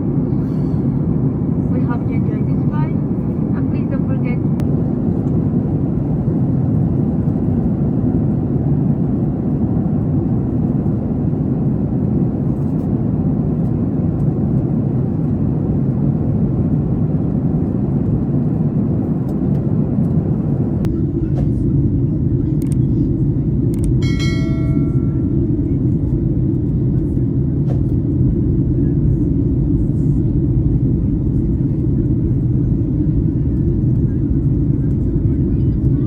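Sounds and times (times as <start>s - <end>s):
airplane cabin engine rumble: 0.0s - 36.0s.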